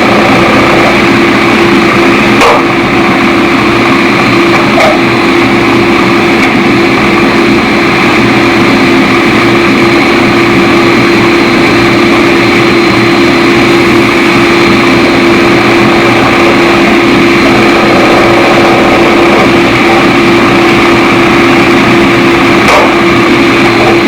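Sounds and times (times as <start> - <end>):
forge roaring with hum: 0.0 - 24.0.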